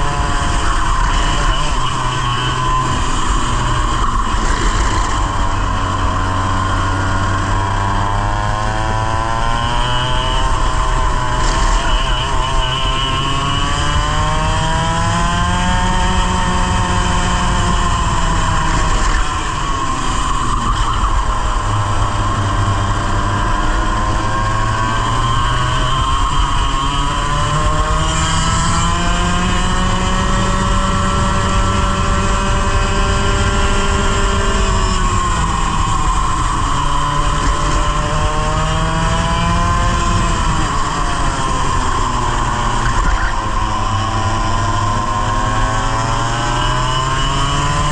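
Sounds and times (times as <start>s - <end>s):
two-stroke kart engine running: 0.0s - 47.9s.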